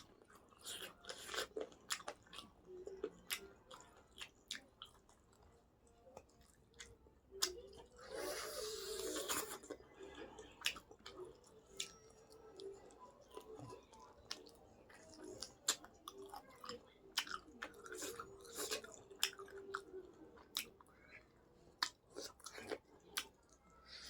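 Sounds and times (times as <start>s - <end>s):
chewing and biting food: 0.0s - 24.0s.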